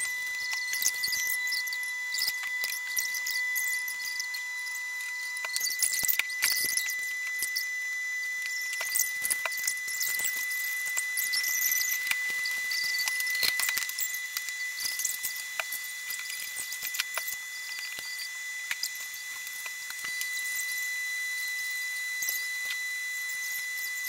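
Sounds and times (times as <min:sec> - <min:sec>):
faint steady high whine: 0:00.0 - 0:24.0.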